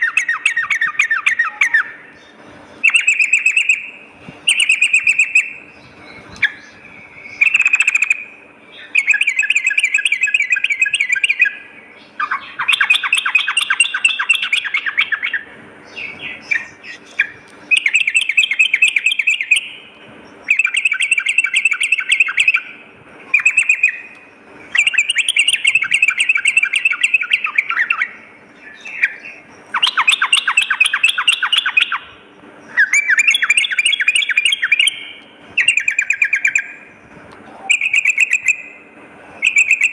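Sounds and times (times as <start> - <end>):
bulbul bubbling chattering song: 0.0 - 36.9, 37.6 - 38.8, 39.4 - 39.9.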